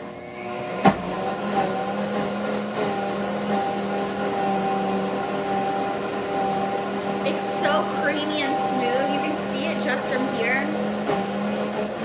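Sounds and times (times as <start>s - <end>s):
blender running: 0.0s - 12.0s.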